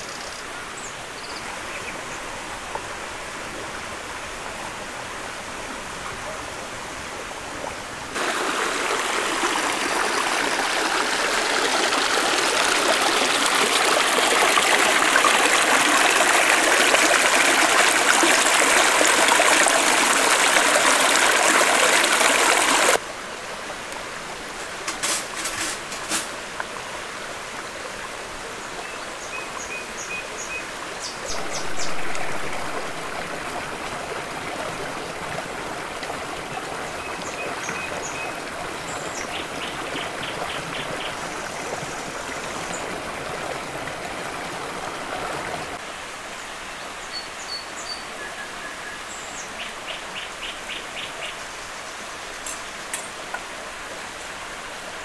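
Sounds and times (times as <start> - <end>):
forest stream rushing: 0.0 - 55.0.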